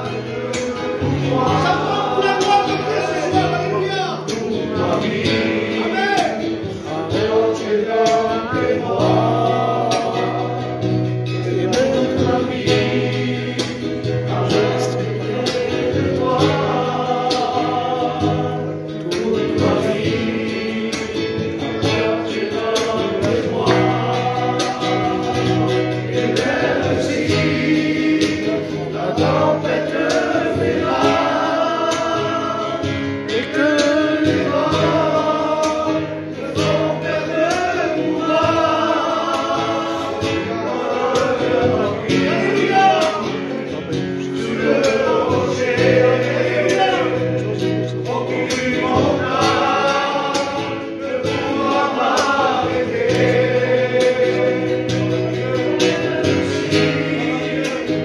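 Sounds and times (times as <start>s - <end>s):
congregation singing a hymn: 0.0s - 58.0s
instrumental accompaniment: 0.0s - 58.0s.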